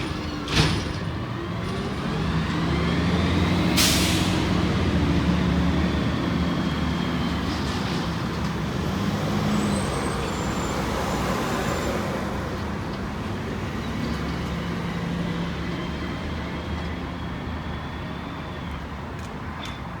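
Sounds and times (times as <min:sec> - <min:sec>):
garbage truck diesel engine: 0:00.0 - 0:20.0.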